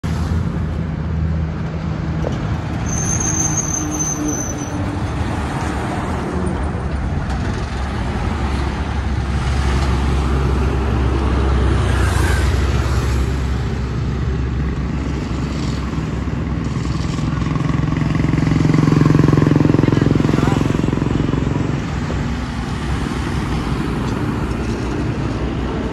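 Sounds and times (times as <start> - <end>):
highway traffic rumble: 0.0 - 25.9
truck engine drone: 0.0 - 25.9.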